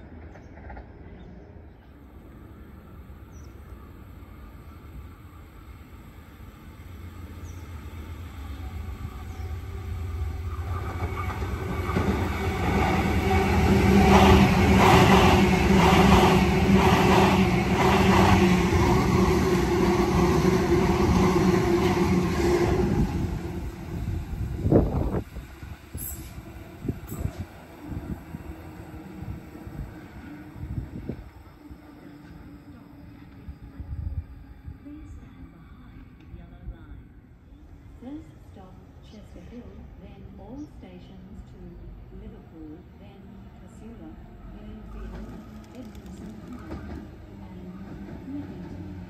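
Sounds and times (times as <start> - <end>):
train rumbling: 0.0 - 49.0.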